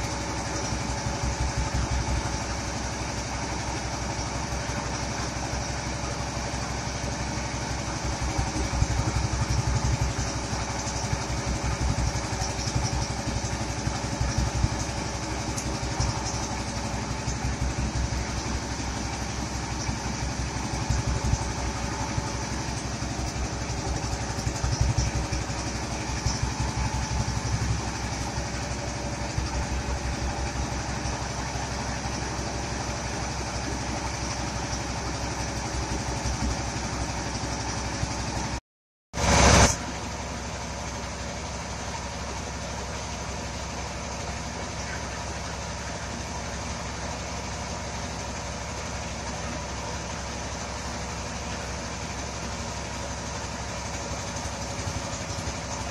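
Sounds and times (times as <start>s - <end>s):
rice thresher running: 0.0s - 38.6s, 39.2s - 55.9s.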